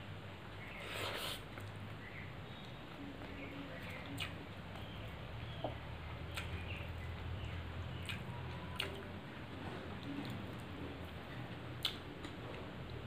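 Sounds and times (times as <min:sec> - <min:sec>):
low steady hum: 0:00.0 - 0:13.0
fingers squishing food: 0:00.6 - 0:13.0.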